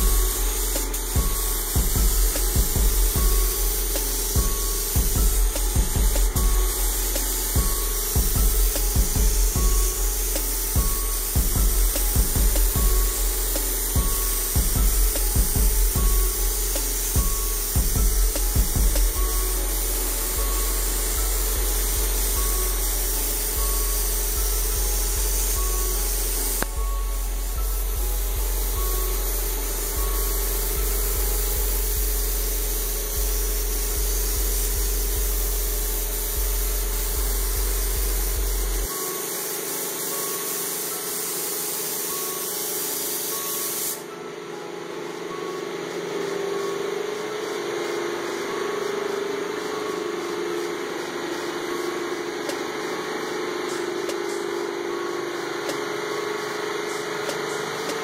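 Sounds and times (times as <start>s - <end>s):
spray gun hissing: 0.0s - 44.1s, 47.1s - 54.9s.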